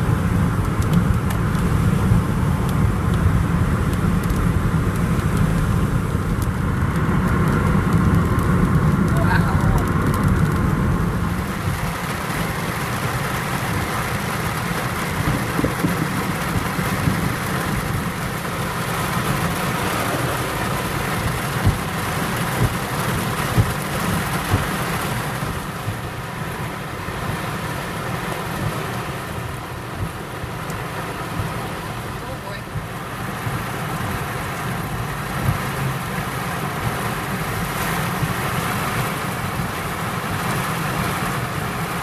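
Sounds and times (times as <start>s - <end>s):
heavy rain on a car: 0.0s - 42.0s
tyre noise on wet road: 0.0s - 42.0s.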